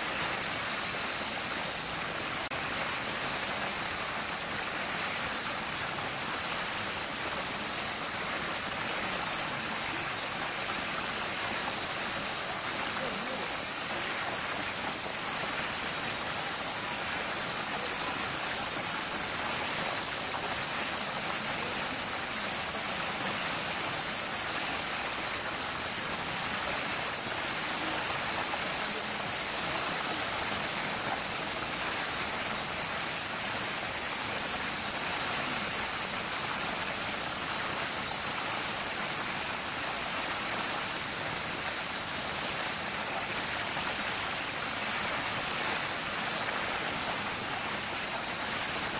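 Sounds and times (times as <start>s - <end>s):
cicadas chorus: 0.0s - 48.9s.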